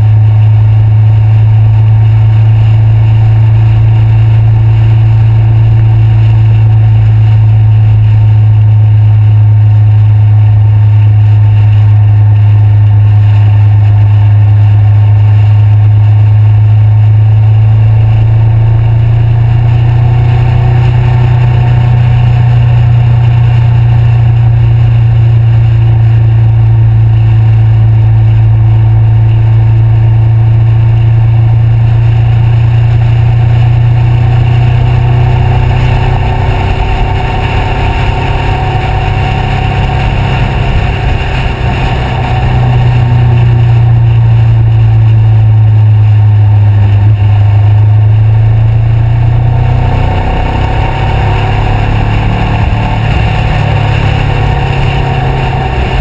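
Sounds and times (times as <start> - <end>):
motorcycle engine cruising: 0.0 - 56.0
wind rush: 0.0 - 56.0.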